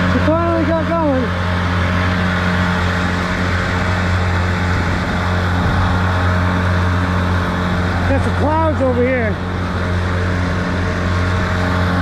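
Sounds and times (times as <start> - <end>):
outboard motor droning: 0.0 - 12.0
rush of water: 0.0 - 12.0.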